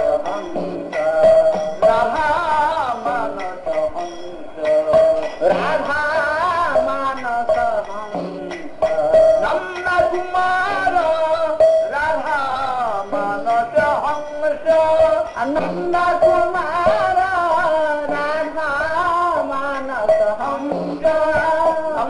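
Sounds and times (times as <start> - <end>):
instrumental accompaniment: 0.0 - 22.0
man singing a hymn: 0.0 - 22.0.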